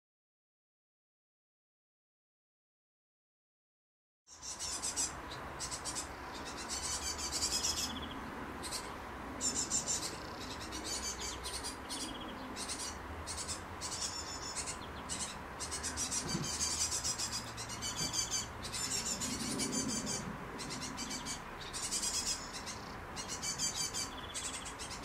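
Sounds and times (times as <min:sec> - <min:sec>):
fledglings chirping high-pitched: 0:04.3 - 0:25.0.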